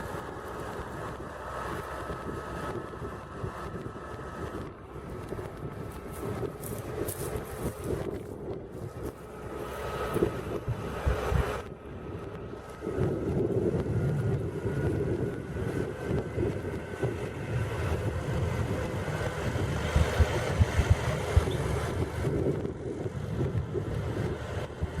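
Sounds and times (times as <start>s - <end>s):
tractor diesel engine running: 0.0s - 25.0s
wind buffeting microphone: 0.0s - 25.0s.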